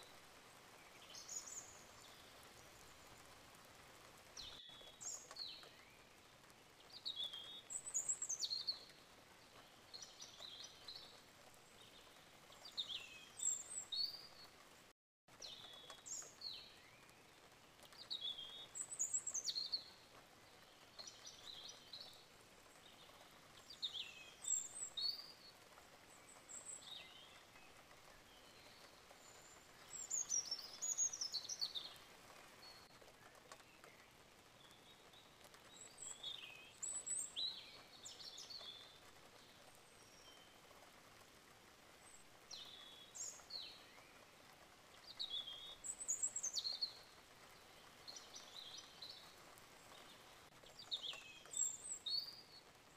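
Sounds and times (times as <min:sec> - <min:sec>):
faint steady hiss: 0:00.0 - 0:52.9.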